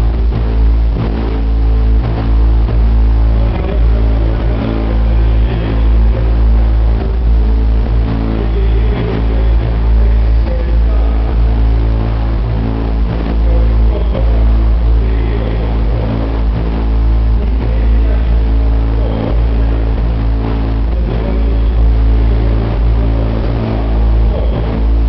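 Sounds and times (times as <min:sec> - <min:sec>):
loud deep subwoofer bass: 0:00.0 - 0:25.0.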